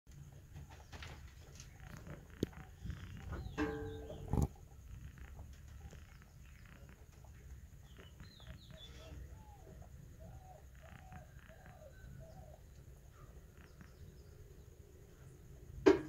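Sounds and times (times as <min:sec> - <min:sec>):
faint bird chirps: 0:00.6 - 0:15.8
soft cooing calls: 0:01.5 - 0:14.5.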